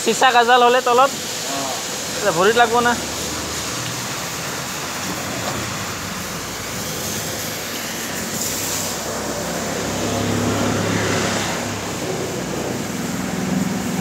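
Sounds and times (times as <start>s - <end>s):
water jet spraying on metal: 0.0s - 14.0s.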